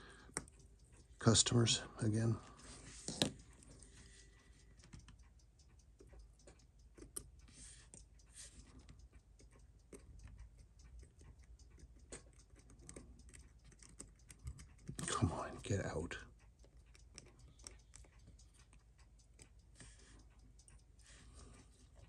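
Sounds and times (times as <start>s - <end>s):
watch movement ticking: 0.0s - 22.0s
tweezers clicking: 3.2s - 22.0s.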